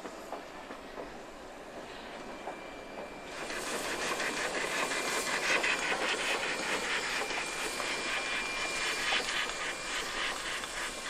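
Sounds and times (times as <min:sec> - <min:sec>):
steady hiss of steam: 0:00.0 - 0:11.0
steam locomotive exhaust chuffing: 0:00.0 - 0:11.0.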